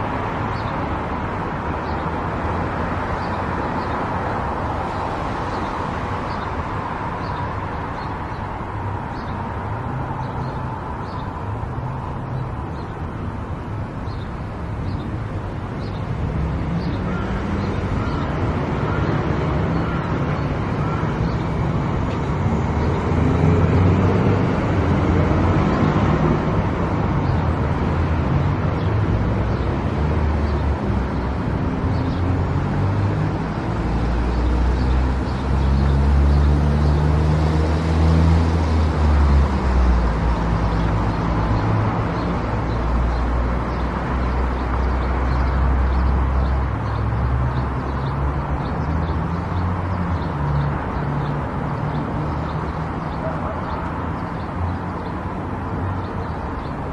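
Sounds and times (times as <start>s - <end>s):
tyre noise on road: 0.0s - 56.9s.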